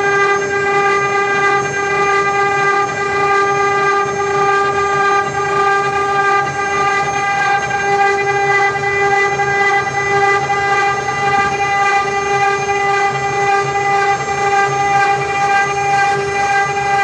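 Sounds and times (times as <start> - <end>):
router high-pitched whine: 0.0 - 17.0.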